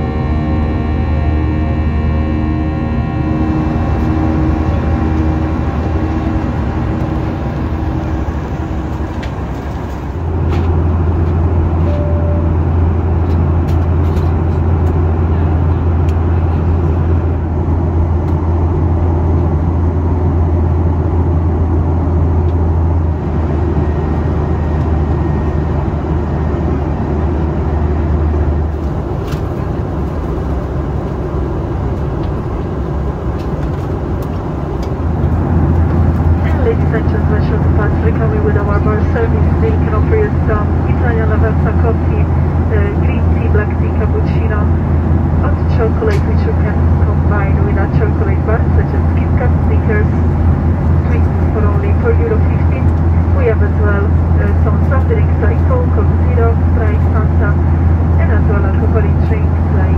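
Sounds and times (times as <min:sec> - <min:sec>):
airplane cabin engine rush: 0:00.0 - 0:59.9
deep drone: 0:00.0 - 0:59.9.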